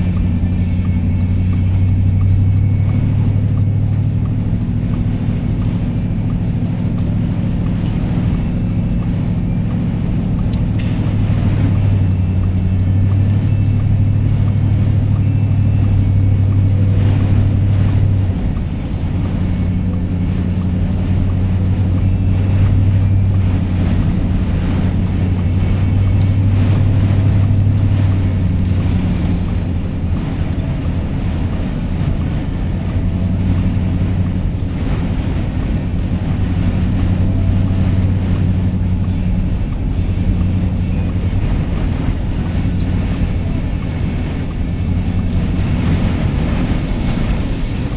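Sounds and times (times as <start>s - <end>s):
car engine and road drone: 0.0s - 47.9s
wind noise: 4.8s - 47.9s.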